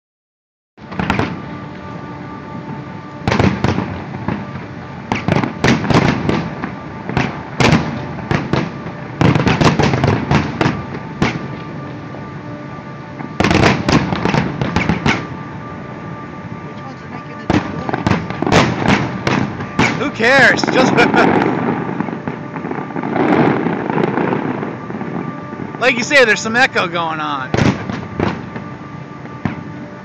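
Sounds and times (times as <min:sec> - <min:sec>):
fireworks booming and crackling: 0:00.8 - 0:30.0.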